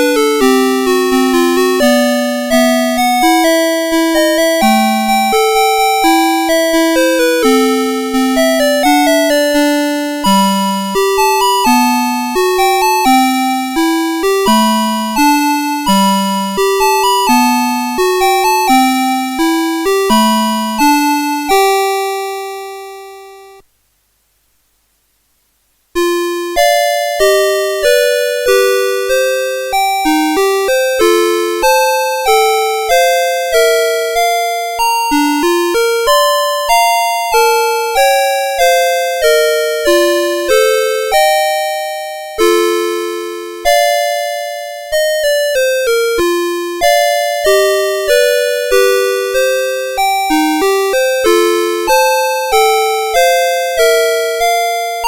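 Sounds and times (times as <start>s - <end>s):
electronic alarm clock melody: 0.0s - 23.6s, 26.0s - 55.0s.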